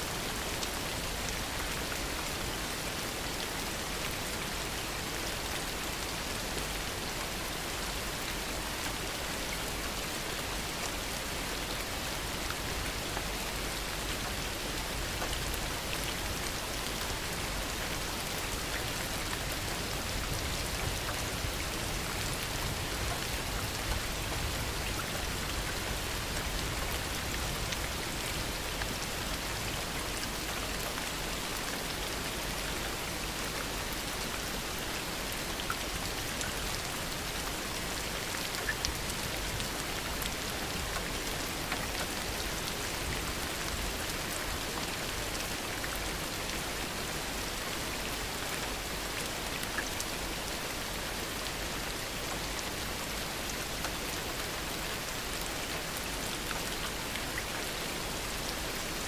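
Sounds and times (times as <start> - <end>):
heavy rain pattering: 0.1 - 59.0.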